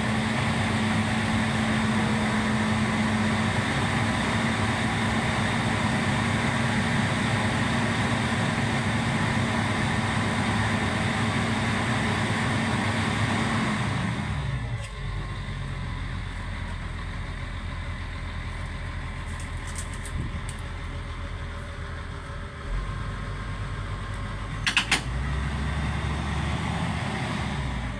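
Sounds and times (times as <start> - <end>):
engine running low rumble: 0.0 - 27.9.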